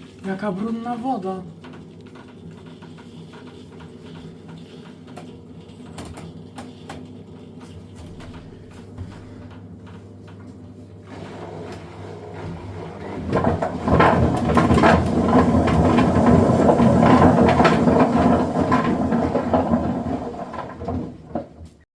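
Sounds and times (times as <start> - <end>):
washing machine churning: 0.0 - 21.8.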